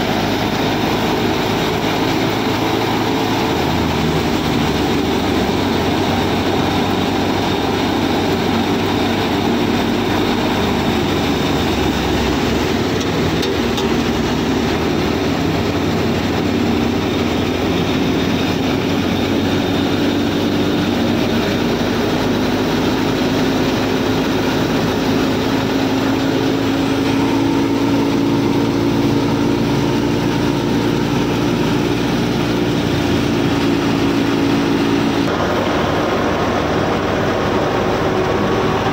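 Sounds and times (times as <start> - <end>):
model thresher motor humming: 0.0 - 38.9.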